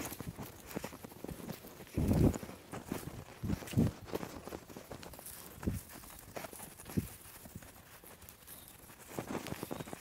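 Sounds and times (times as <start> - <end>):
leaves and soil rustling: 0.0 - 10.0.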